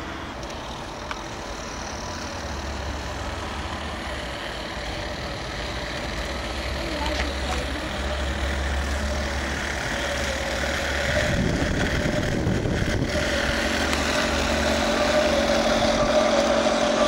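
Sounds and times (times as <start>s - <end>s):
model locomotive electric motor whine: 0.0s - 17.0s.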